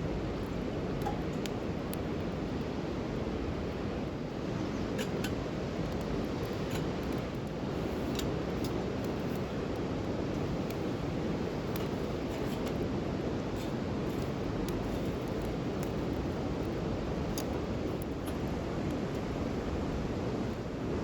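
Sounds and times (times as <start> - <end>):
campfire crackles and pops: 0.0 - 21.0.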